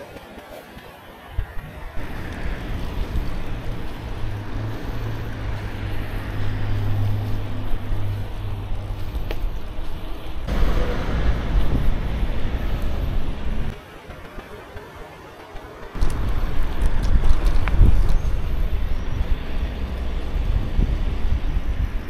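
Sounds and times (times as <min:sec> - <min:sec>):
rolling rumble of bike tyres: 0:00.0 - 0:22.0
wind noise: 0:00.0 - 0:22.0.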